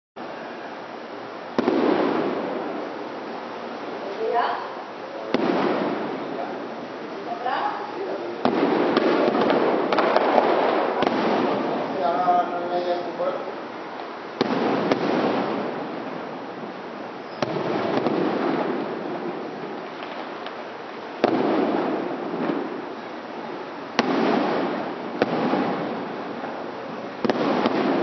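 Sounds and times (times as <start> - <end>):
rolling rumble of fireworks: 0.2 - 28.0
fireworks bursting: 0.3 - 28.0.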